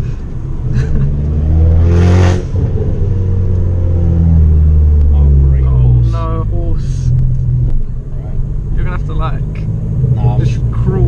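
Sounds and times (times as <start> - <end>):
car engine loud drone: 0.0 - 11.0.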